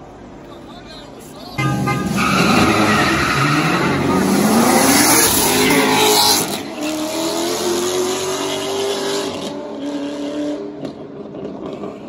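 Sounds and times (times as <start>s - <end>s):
racing car engines at full throttle: 0.1s - 12.0s.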